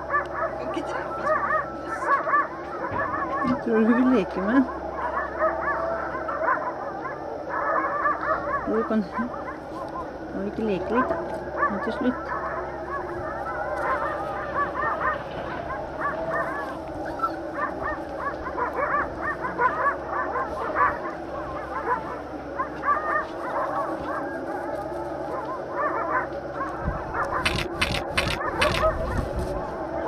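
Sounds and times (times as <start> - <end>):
puppies yipping and squealing: 0.0 - 10.1, 11.6 - 29.3.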